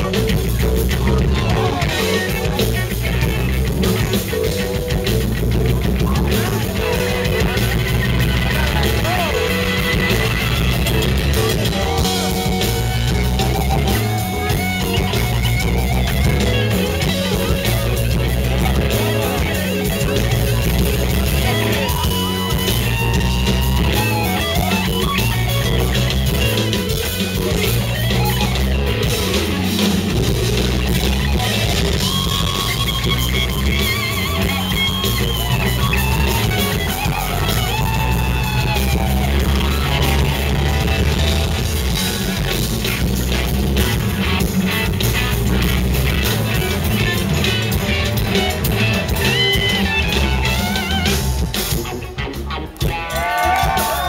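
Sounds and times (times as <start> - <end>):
bass guitar: 0.0 - 54.0
drum kit: 0.0 - 54.0
electric guitar lead: 0.0 - 54.0
keyboards: 0.0 - 54.0.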